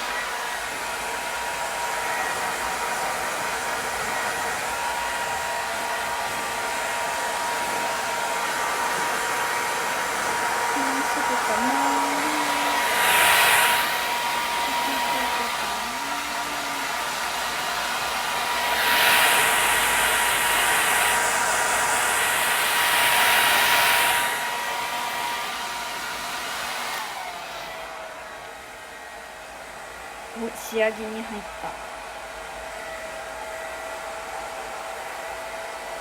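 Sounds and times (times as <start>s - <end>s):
hair dryer blowing: 0.0s - 36.0s.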